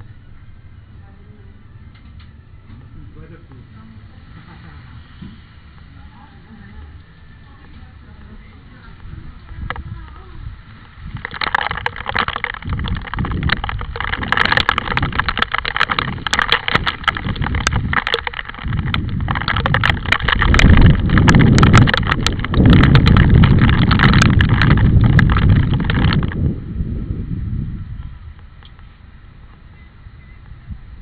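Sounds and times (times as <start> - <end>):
heavy rain: 4.0 - 29.4
wind buffeting microphone: 5.9 - 31.0.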